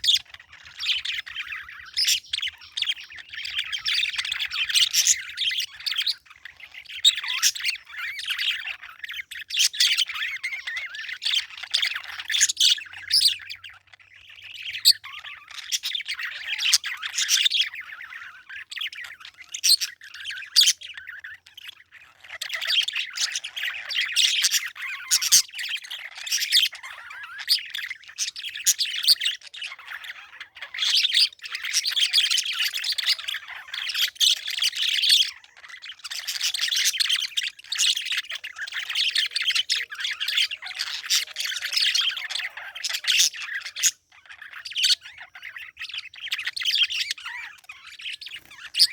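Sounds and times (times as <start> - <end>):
parakeet squawks: 0.0 - 48.9
parakeets chirping and chattering: 0.0 - 48.9.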